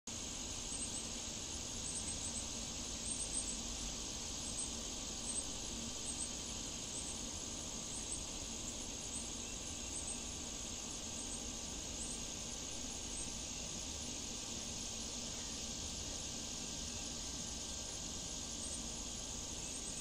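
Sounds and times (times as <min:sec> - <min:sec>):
high-pitched insect chorus: 0:00.1 - 0:20.0
soft background hiss: 0:00.1 - 0:20.0.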